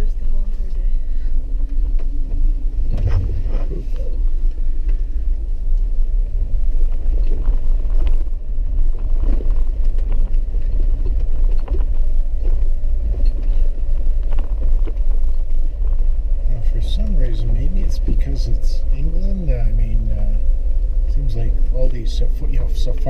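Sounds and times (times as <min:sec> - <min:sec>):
vehicle cabin low rumble: 0:00.0 - 0:23.0.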